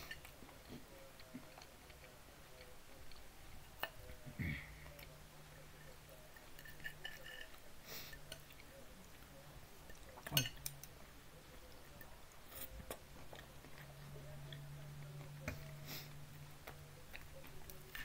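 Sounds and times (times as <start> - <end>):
chewing and eating noises: 0.0 - 18.0
low steady hum: 0.0 - 18.0.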